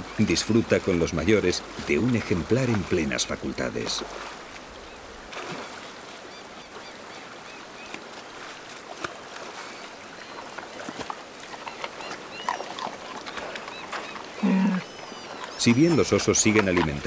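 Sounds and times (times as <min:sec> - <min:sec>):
river water running and splashing: 0:00.0 - 0:17.0
sharp splashes: 0:01.5 - 0:17.0.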